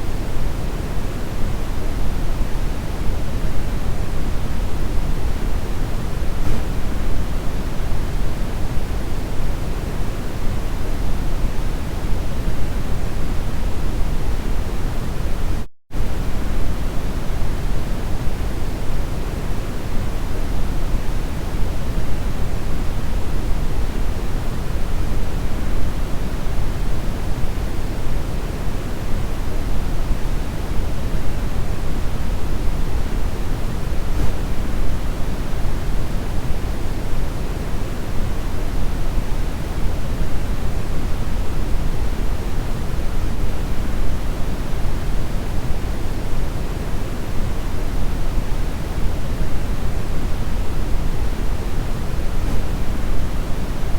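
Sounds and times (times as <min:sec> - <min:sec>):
deep steady brown noise hiss: 0:00.0 - 0:53.9.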